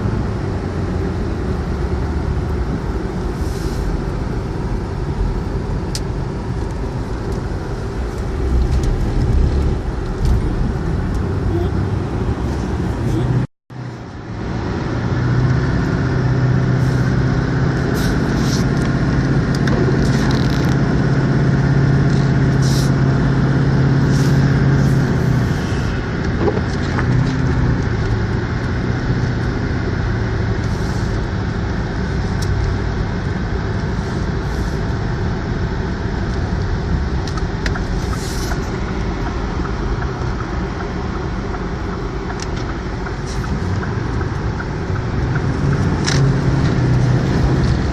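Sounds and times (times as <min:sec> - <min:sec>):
road noise: 0:00.0 - 0:47.9
vehicle engine drone: 0:00.0 - 0:47.9.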